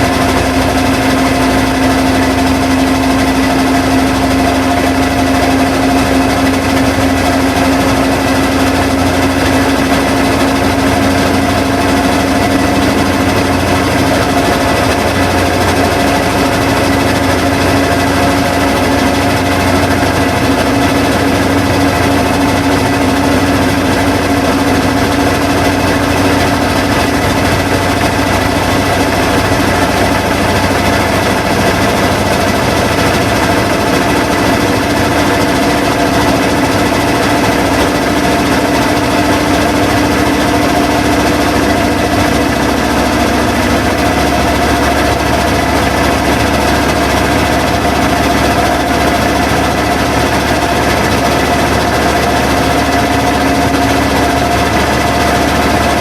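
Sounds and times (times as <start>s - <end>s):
washing machines humming and rattling: 0.0s - 56.0s.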